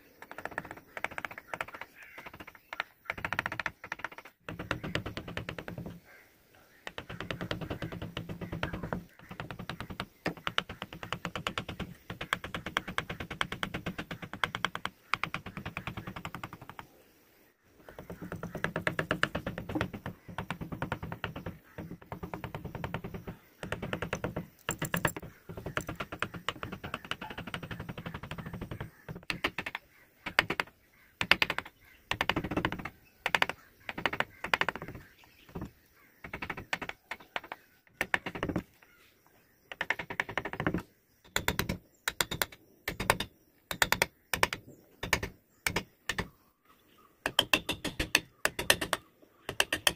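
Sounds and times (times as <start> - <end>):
chisel paring wood: 0.2 - 6.0, 6.8 - 16.8, 17.8 - 38.7, 39.7 - 46.3, 47.2 - 49.9.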